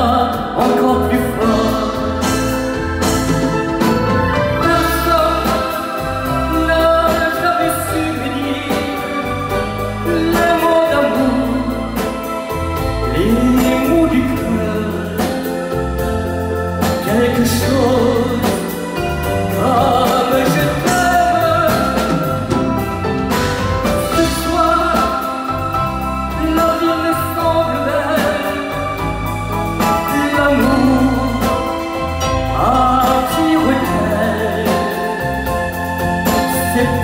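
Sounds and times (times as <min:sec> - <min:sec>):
man singing a ballad: 0:00.0 - 0:03.4, 0:04.0 - 0:37.0
live band playing: 0:00.0 - 0:37.0.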